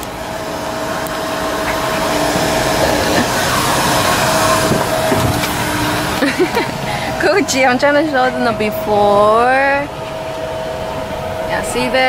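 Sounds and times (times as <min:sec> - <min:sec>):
vacuum suction whining: 0:00.0 - 0:12.0.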